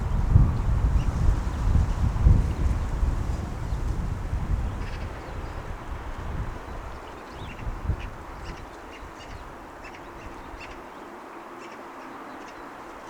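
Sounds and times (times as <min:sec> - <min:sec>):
wind gusts on microphone: 0:00.0 - 0:10.8.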